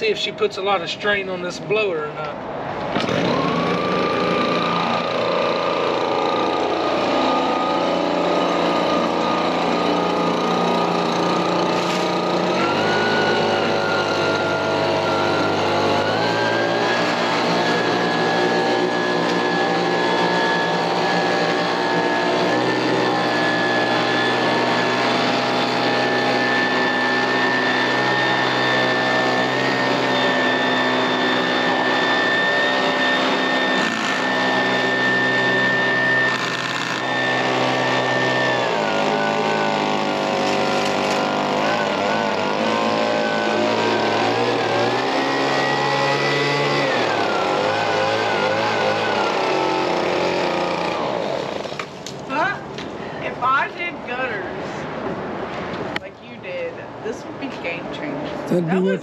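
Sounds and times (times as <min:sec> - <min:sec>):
leaf blower engine running: 0:02.9 - 0:53.6.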